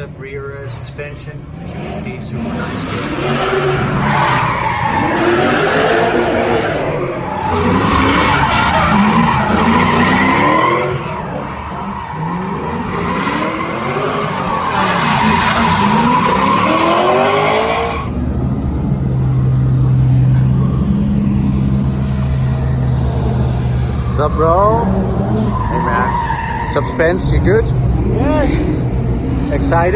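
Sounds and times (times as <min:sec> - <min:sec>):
car engine revving: 0:00.0 - 0:29.9
tyres squealing: 0:01.8 - 0:18.4, 0:19.2 - 0:29.9
car engine idling: 0:02.1 - 0:29.9.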